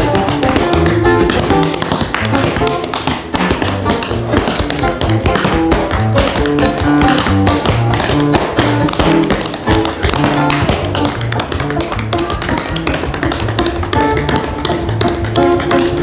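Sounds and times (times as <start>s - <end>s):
boots tapping on stage floor: 0.0s - 16.0s
lively guitar music: 0.0s - 16.0s.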